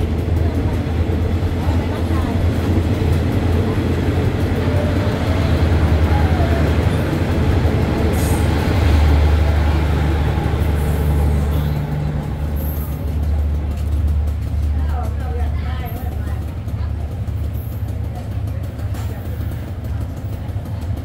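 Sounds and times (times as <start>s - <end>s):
diesel train rolling past: 0.0s - 21.0s.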